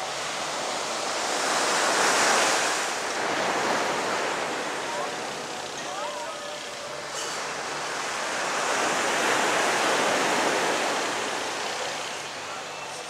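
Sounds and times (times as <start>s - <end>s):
surf washing up the beach: 0.0s - 13.0s.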